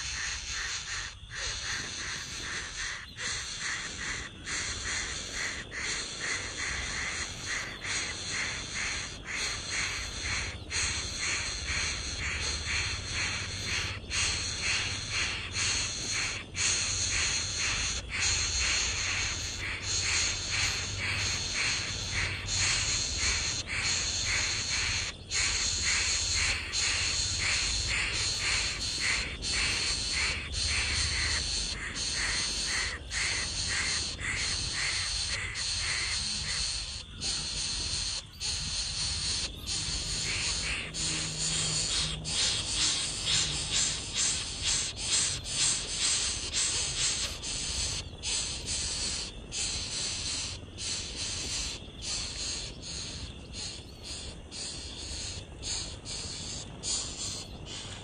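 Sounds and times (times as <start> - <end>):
harsh bird calls: 0.0 - 58.0
steady high hiss: 0.0 - 58.0.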